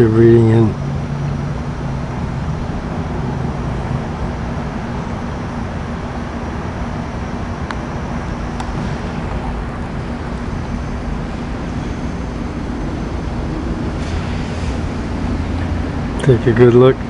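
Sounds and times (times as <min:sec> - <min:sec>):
air conditioner fan rush: 0:00.0 - 0:17.0.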